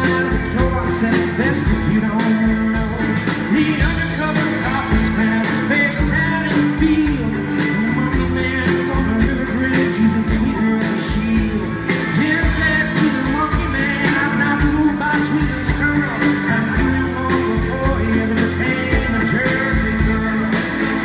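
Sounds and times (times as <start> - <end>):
live rock band playing: 0.0 - 21.0
man singing: 0.0 - 21.0.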